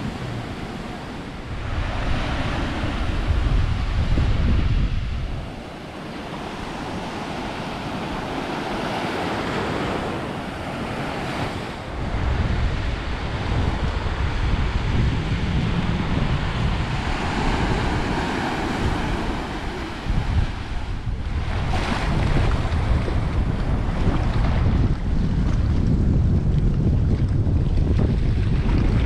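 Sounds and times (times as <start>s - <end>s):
waves washing on sandy beach: 0.0s - 29.0s
wind buffeting microphone: 0.0s - 29.0s.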